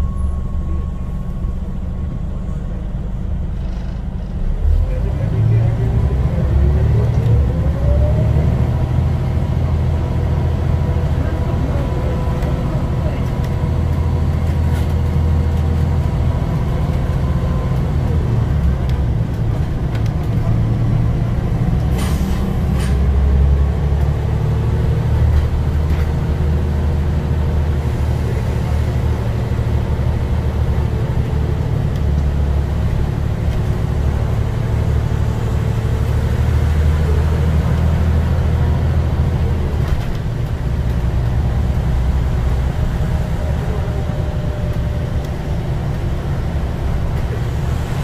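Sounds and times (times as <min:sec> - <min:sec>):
bus diesel engine drone: 0:00.0 - 0:48.0
road noise: 0:00.0 - 0:48.0.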